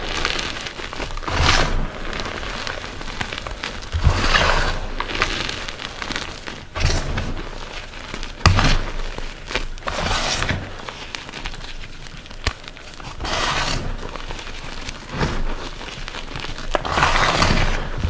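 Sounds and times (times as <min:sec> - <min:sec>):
chalk powder crunching: 0:00.0 - 0:18.0.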